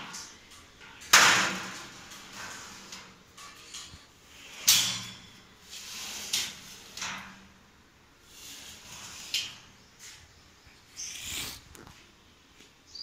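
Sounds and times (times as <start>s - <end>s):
wire frames rattling: 0.0s - 11.8s.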